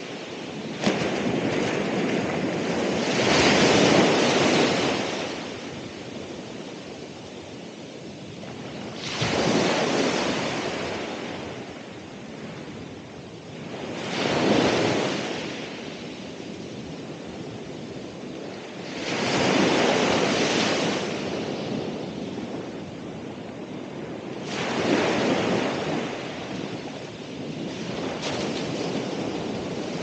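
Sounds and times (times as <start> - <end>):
ocean waves breaking on shore: 0.0 - 30.0
surf hiss: 0.0 - 30.0.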